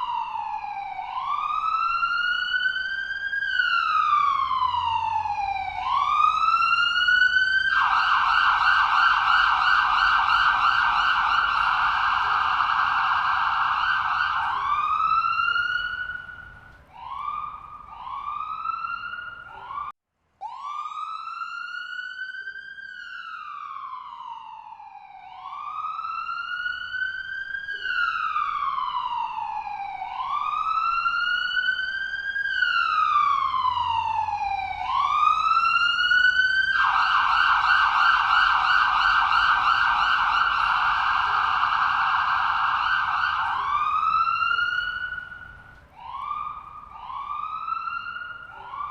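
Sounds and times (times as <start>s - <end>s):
electronic ambulance siren: 0.0s - 48.9s.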